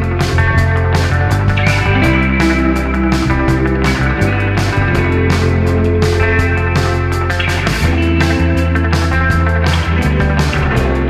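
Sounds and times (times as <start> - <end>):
heavy bass: 0.0 - 11.0
rock music with guitar: 0.0 - 11.0
steady drum beat: 0.0 - 11.0.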